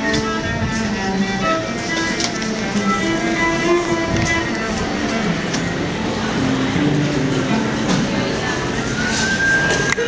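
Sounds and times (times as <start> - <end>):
cello playing held notes: 0.0 - 10.0.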